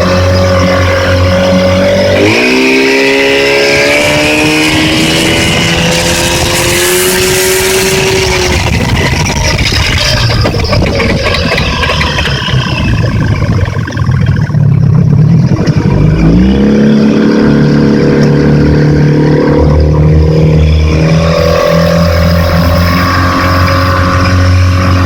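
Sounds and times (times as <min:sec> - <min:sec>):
outboard motor running with knock: 0:00.0 - 0:25.0.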